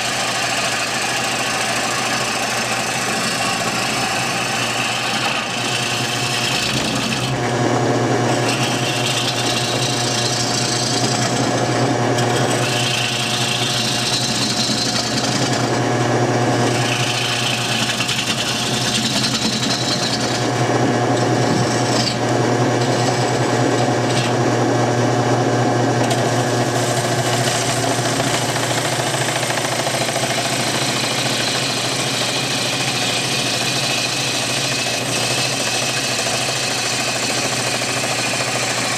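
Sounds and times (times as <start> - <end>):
turning tool scraping wood: 0.0 - 38.9
wood lathe humming: 0.0 - 38.9.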